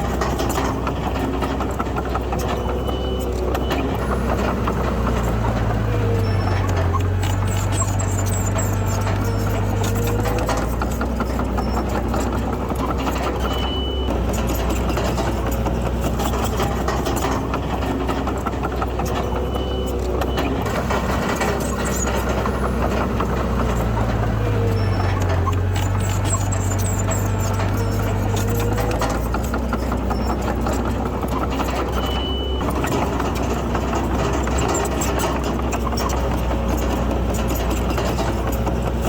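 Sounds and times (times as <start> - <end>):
bulldozer engine running: 0.0 - 39.0
clanking and rattling: 0.0 - 39.0.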